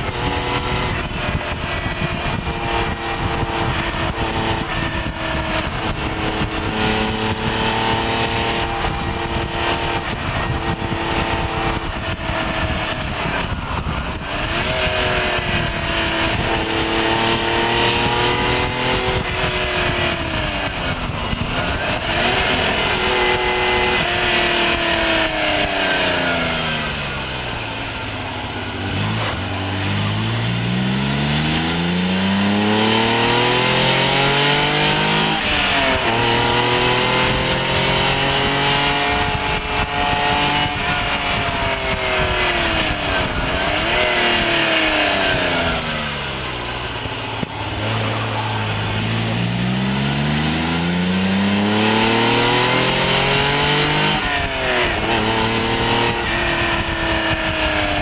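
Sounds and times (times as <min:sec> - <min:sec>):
car engine revving under acceleration: 0:00.0 - 0:58.0.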